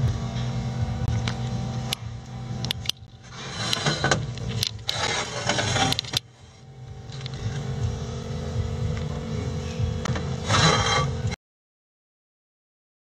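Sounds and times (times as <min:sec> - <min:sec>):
pump hum: 0:00.0 - 0:11.4.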